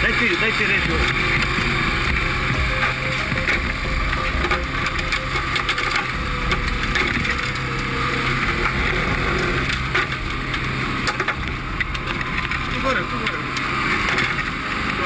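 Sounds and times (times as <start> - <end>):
steady engine hum: 0.0 - 15.0
car wreckage cracking and crunching: 0.8 - 15.0.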